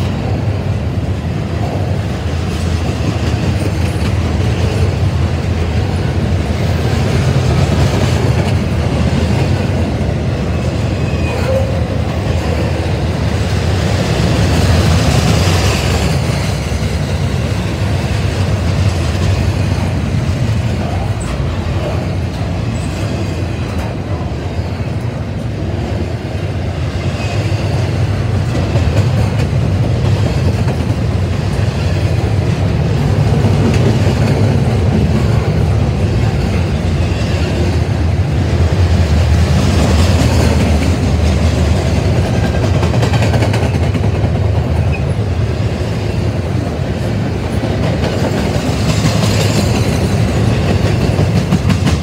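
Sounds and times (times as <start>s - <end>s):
clickety-clack over rail joints: 0.0s - 52.0s
freight train wheels rumbling: 0.0s - 52.0s.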